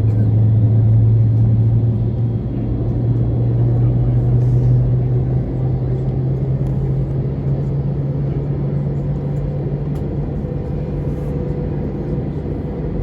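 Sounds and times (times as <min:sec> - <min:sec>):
airliner cabin engine rumble: 0:00.0 - 0:13.0
constant low hum: 0:00.0 - 0:13.0.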